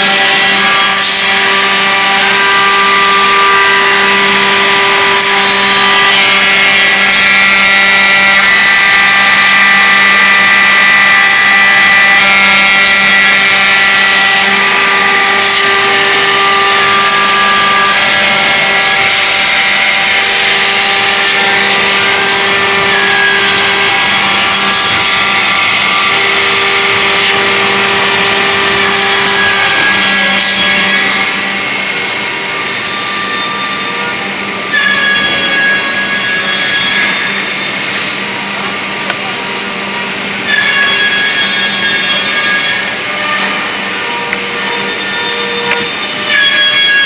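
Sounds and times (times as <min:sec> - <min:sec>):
edge banding machine running: 0:00.0 - 0:47.0.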